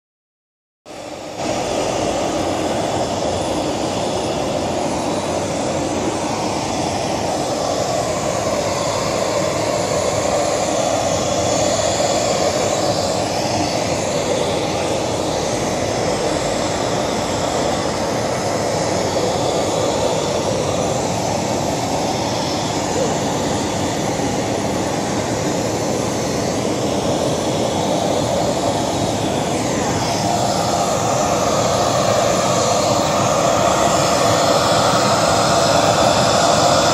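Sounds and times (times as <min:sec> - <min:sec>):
jet engines running: 0:00.9 - 0:36.9.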